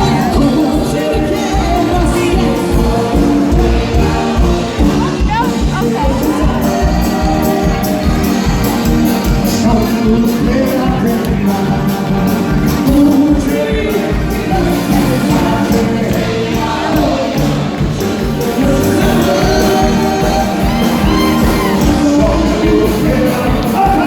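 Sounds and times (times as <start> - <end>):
live band music: 0.0 - 24.0
person singing: 0.0 - 24.0.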